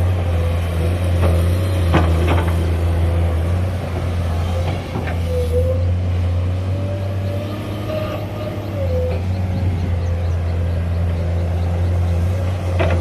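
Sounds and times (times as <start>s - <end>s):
diesel machinery humming: 0.0s - 13.0s.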